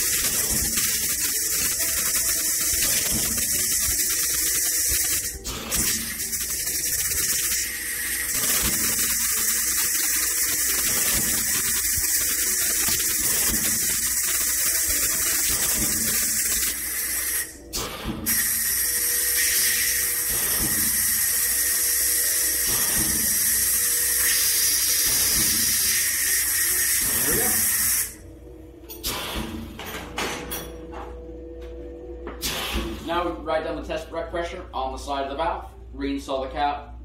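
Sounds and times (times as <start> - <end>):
pressurised gas hissing: 0.0 - 28.2, 29.0 - 29.7, 32.4 - 33.2.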